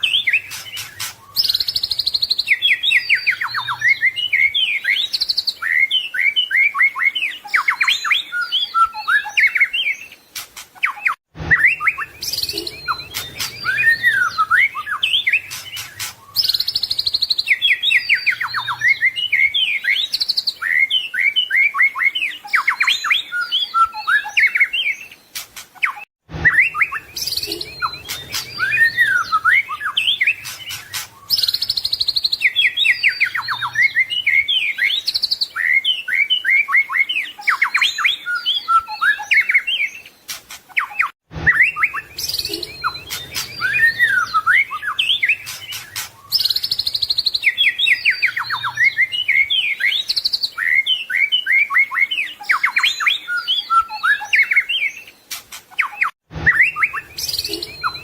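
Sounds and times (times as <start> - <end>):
bird singing varied whistling song: 0.0 - 10.2, 10.8 - 25.2, 25.8 - 40.1, 40.7 - 58.0.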